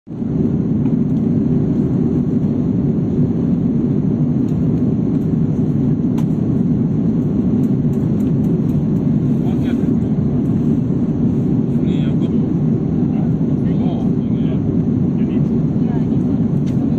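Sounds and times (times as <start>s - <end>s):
aircraft cabin engine rumble: 0.1s - 16.9s.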